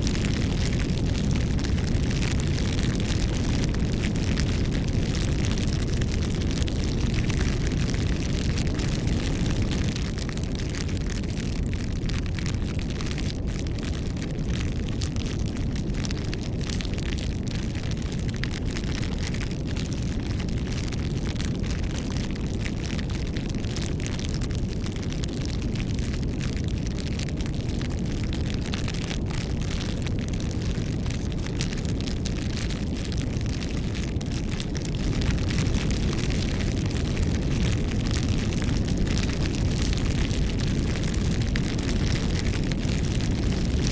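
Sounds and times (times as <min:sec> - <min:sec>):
roar of bonfire flames: 0:00.0 - 0:43.9
wood crackles and pops: 0:00.0 - 0:43.9.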